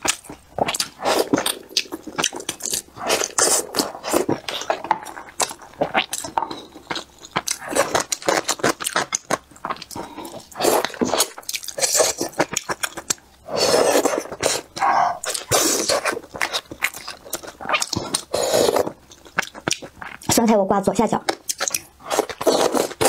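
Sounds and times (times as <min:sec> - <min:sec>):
chewing with wet mouth clicks: 0:00.0 - 0:13.3, 0:14.0 - 0:20.4, 0:21.3 - 0:23.0.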